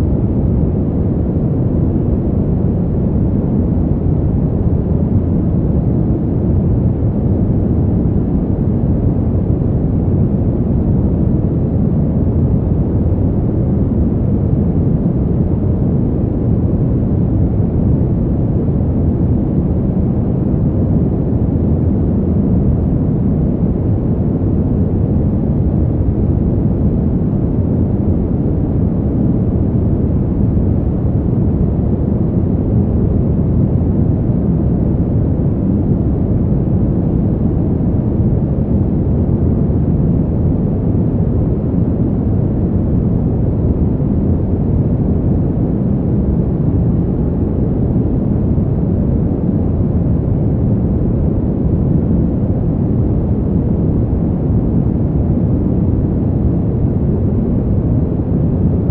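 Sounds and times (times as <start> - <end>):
deep rushing wind: 0.0 - 58.9.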